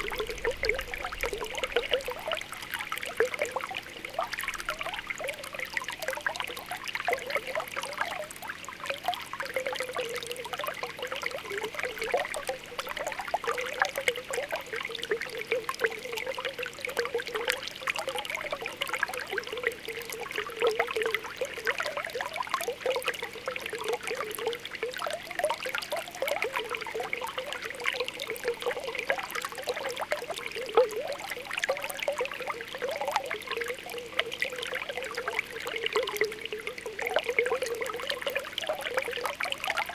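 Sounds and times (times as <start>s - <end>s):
spring water bubbling: 0.0s - 39.9s
water trickling: 0.0s - 39.9s.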